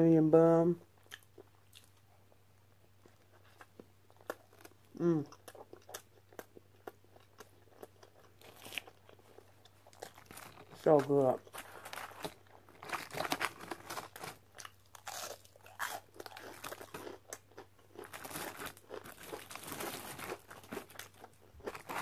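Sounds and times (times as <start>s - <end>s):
crunching onion rings: 1.0s - 22.0s.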